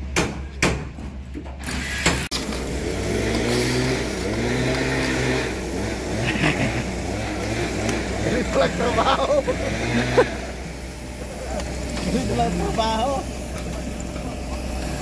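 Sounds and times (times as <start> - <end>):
loud machine noise: 1.6 - 15.0.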